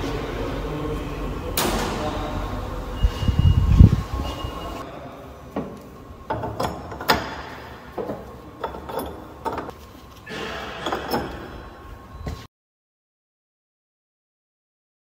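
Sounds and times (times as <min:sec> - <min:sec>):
steady machine hum: 0:00.0 - 0:12.2.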